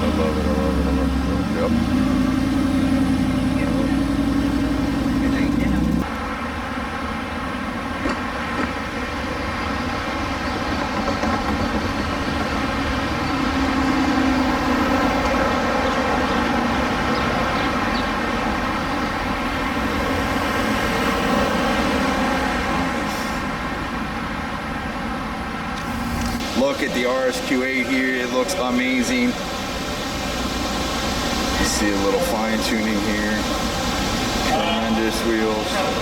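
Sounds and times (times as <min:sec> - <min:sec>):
car engine idling: 0:00.0 - 0:10.6, 0:11.7 - 0:36.0.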